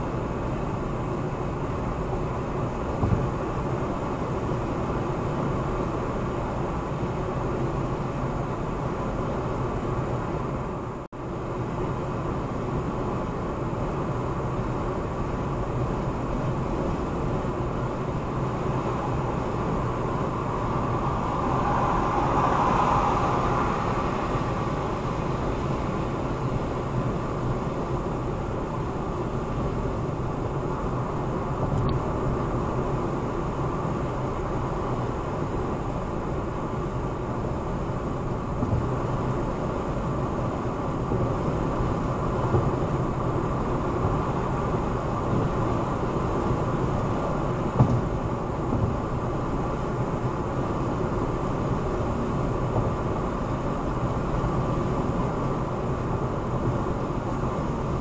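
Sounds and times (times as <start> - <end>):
car tyre and wind noise: 0.0 - 58.0.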